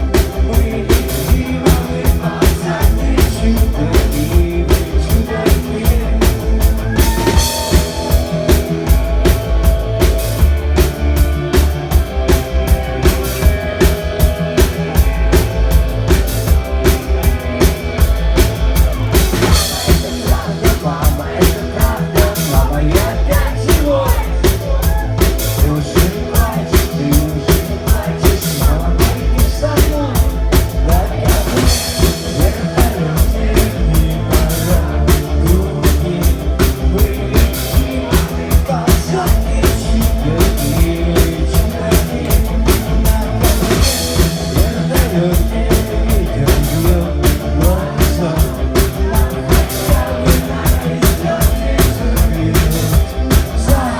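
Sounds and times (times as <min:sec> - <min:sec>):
drum kit fast beat: 0:00.0 - 0:53.9
live rock band playing: 0:00.0 - 0:53.9.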